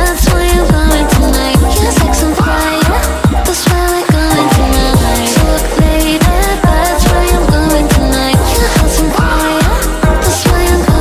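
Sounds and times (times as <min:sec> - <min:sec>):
electronic pop song: 0:00.0 - 0:11.0.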